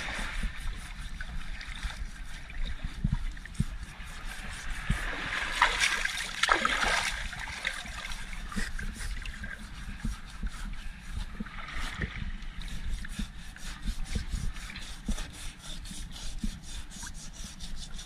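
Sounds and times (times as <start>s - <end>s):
scouring pad scrubbing hull: 0.0s - 18.0s
water lapping against boat hull: 0.0s - 18.0s.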